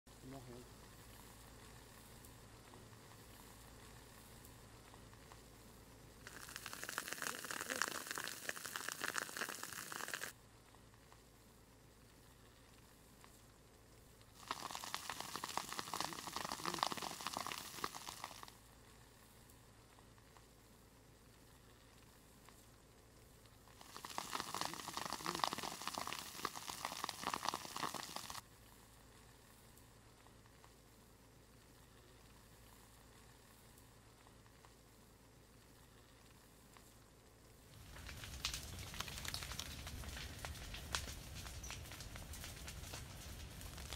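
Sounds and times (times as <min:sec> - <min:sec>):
burning grass crackling: 0:00.1 - 0:43.9
faint steady hiss: 0:00.1 - 0:43.9.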